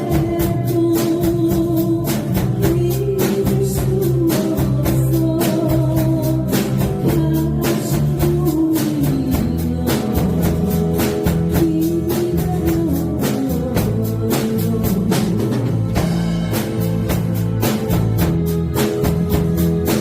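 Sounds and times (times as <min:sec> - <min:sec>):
bass guitar: 0:00.0 - 0:20.0
drum kit beat on hi-hat: 0:00.0 - 0:20.0
electric guitar: 0:00.0 - 0:20.0
keyboard melody: 0:00.0 - 0:20.0.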